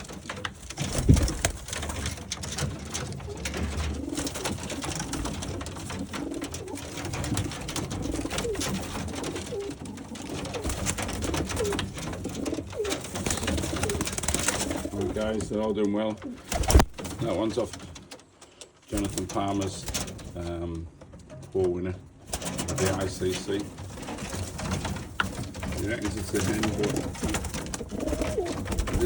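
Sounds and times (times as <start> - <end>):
pigeons cooing: 0.0 - 20.9, 22.3 - 29.0.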